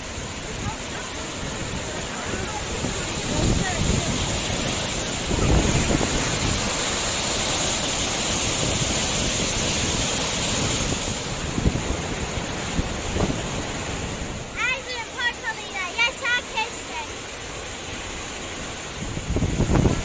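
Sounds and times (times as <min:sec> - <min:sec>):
wind buffeting microphone: 0:00.0 - 0:15.0, 0:18.5 - 0:20.0
waterfall rushing: 0:00.0 - 0:20.0.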